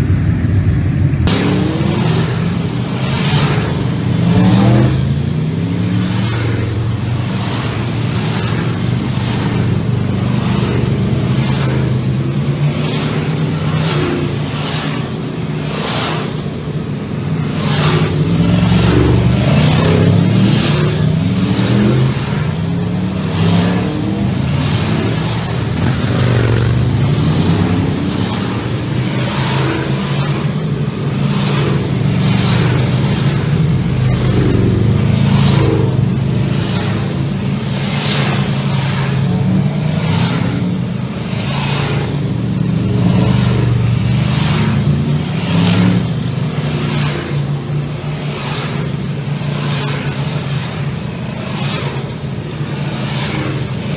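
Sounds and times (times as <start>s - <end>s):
motorcycle engine revving: 0.0s - 53.9s
wind and road noise: 0.0s - 53.9s.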